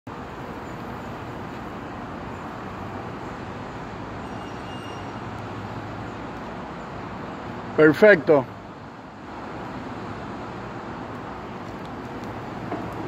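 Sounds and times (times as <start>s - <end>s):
outdoor background rush: 0.1s - 13.0s.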